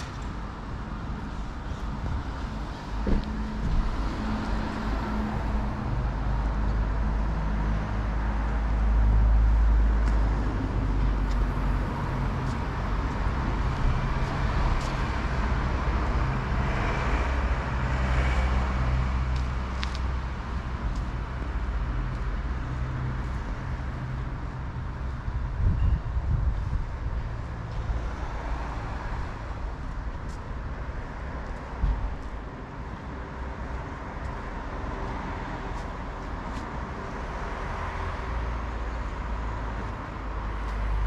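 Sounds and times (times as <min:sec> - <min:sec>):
street traffic rumble: 0:00.0 - 0:41.0.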